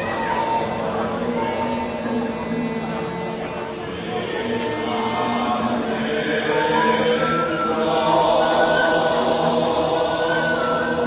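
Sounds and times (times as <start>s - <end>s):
vocal chorus singing slowly: 0.0s - 11.0s.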